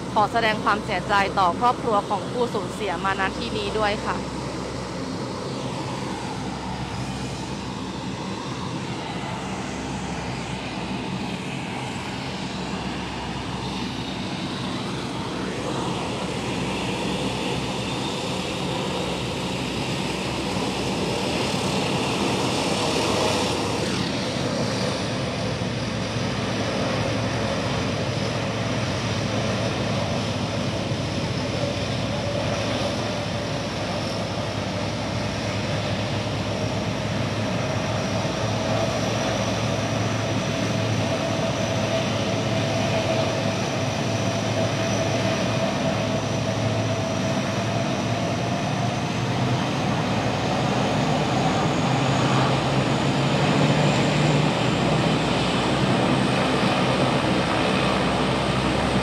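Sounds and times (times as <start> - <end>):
turboprop engines droning: 0.0 - 59.0.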